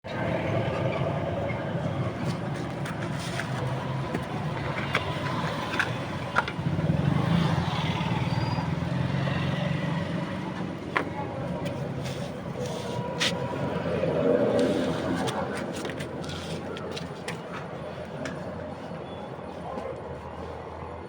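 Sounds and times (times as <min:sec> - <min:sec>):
vehicle engine rumbling: 0:00.1 - 0:21.0.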